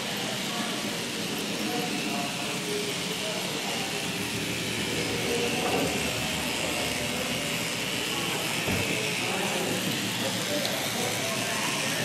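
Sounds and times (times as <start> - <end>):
busy hall background noise: 0.0 - 12.0
faint distant voices: 0.0 - 12.0.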